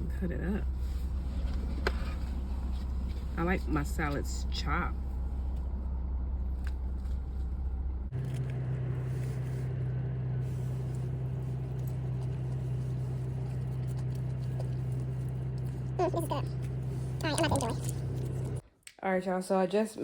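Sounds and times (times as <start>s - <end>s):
car engine hum inside cabin: 0.0s - 18.6s.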